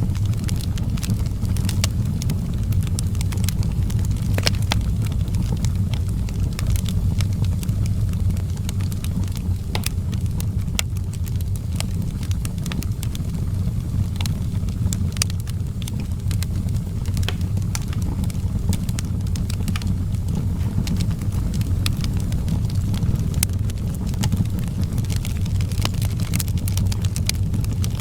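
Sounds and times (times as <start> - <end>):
fire crackling and popping: 0.0 - 28.0
steady low rumble: 0.0 - 28.0.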